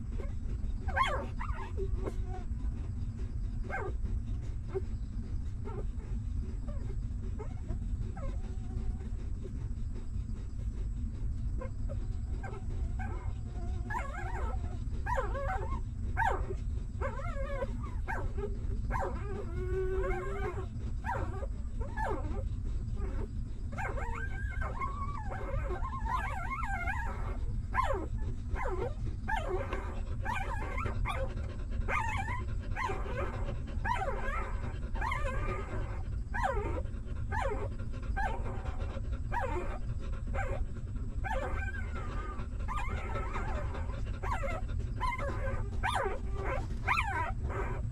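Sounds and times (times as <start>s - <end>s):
puppies whimpering and squeaking: 0.0s - 47.9s
steady low rumble: 0.0s - 47.9s.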